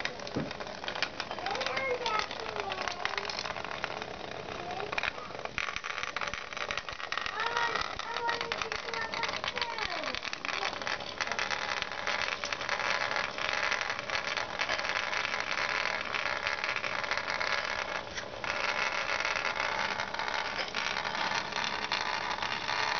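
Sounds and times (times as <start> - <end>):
vibrating robot bugs rattling on plastic: 0.0 - 22.9.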